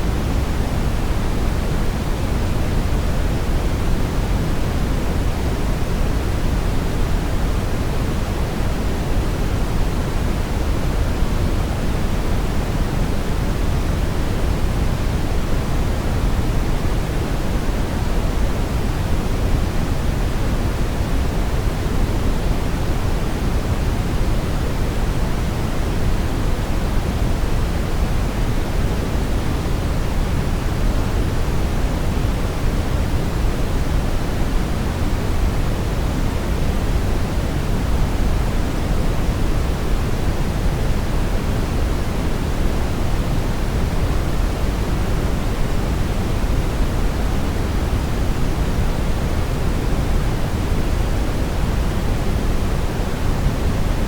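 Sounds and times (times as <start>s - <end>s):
brown noise rumbling hiss: 0.0s - 54.0s.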